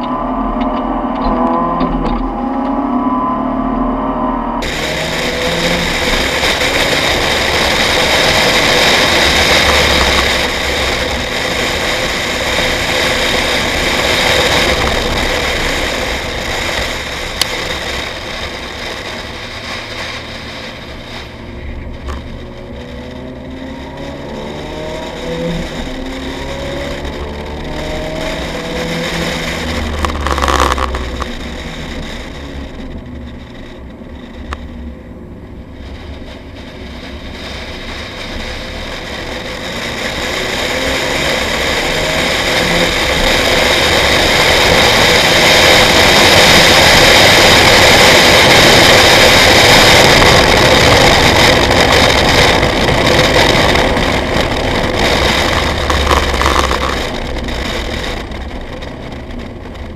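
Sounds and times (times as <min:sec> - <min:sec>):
high-revving car engine drone: 0:00.0 - 0:59.9
wind noise: 0:00.0 - 0:59.9
tyre noise: 0:04.6 - 0:59.9.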